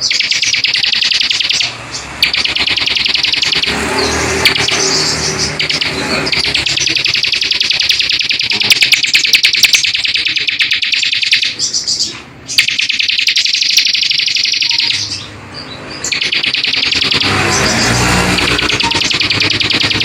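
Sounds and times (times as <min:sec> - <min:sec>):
songbird chattering trill: 0:00.0 - 0:20.0.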